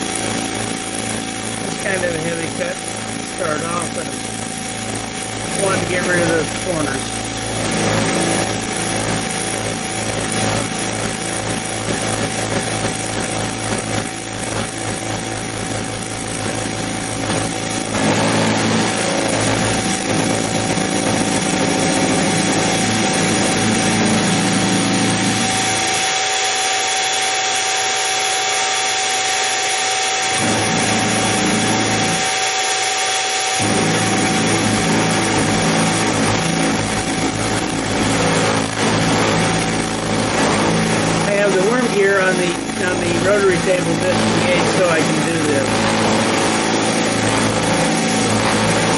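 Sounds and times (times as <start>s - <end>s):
end mill cutting metal: 0.0s - 48.9s
mill spindle motor running: 0.0s - 48.9s.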